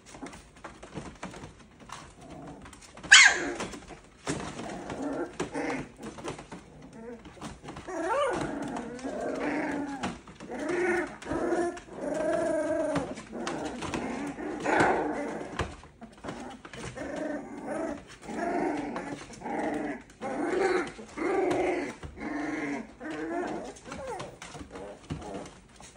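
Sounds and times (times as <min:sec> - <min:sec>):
puppies play-growling and yapping: 0:00.0 - 0:25.9.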